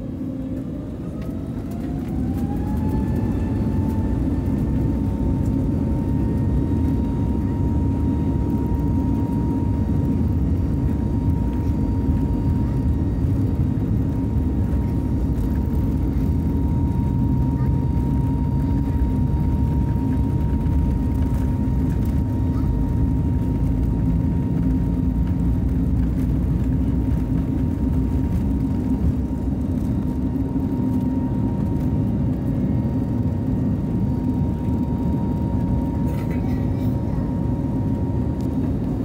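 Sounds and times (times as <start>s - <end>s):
high engine whine: 0.0s - 39.0s
jet engine rumble: 0.0s - 39.0s.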